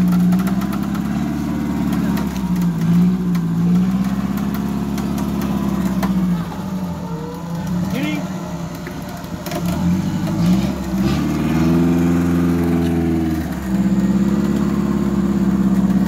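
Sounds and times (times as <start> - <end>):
engine revving under heavy load: 0.0 - 16.0.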